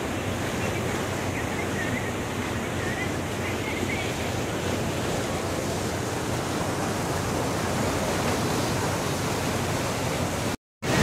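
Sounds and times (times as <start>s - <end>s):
boat wake water rushing: 0.0s - 11.0s.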